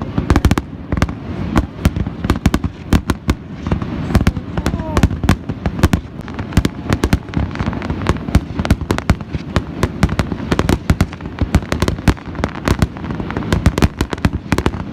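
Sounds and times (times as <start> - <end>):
continuous rumble: 0.0 - 14.9
fireworks bangs and crackles: 0.0 - 14.9.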